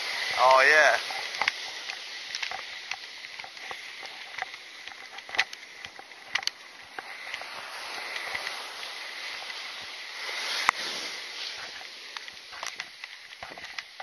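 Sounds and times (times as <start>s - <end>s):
footsteps on sand: 0.0s - 13.6s
surf washing onto sand: 0.0s - 14.0s.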